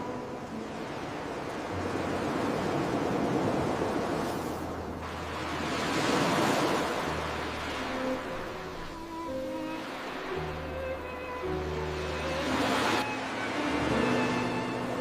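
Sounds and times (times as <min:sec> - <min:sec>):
ocean waves rushing in: 0:00.0 - 0:15.0.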